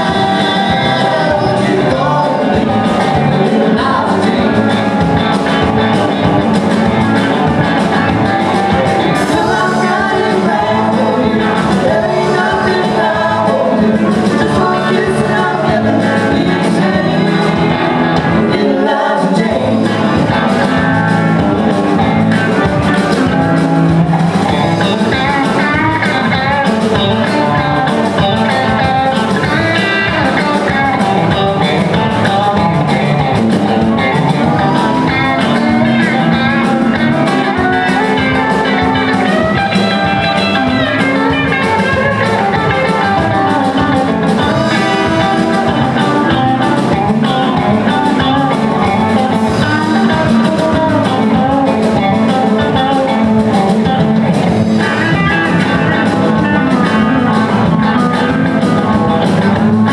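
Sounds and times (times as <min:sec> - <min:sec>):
bass guitar: 0:00.0 - 0:59.9
drum kit: 0:00.0 - 0:59.9
electric guitar: 0:00.0 - 0:59.9
pedal steel guitar: 0:00.0 - 0:59.9.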